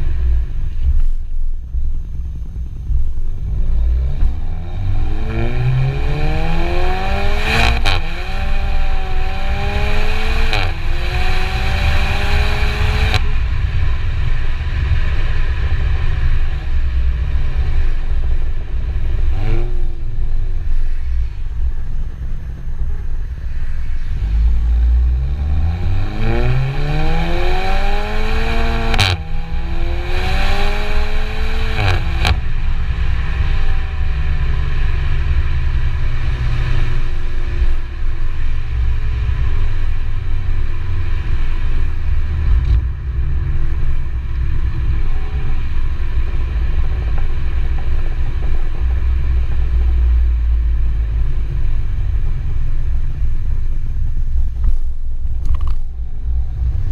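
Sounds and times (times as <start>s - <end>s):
car engine revving: 0.0s - 56.9s
exhaust crack: 0.0s - 56.9s.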